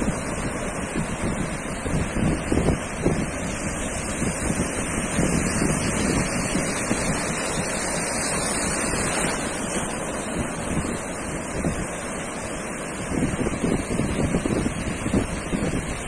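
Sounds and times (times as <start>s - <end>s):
sea surf washing onto beach: 0.0s - 16.0s
wind buffeting microphone: 0.0s - 16.0s.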